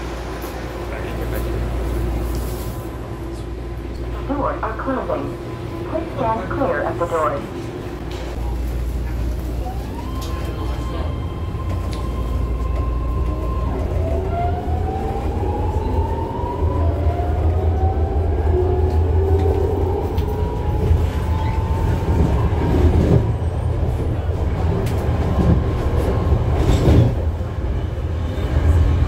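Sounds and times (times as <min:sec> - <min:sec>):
train car rumbling on rails: 0:00.0 - 0:29.0.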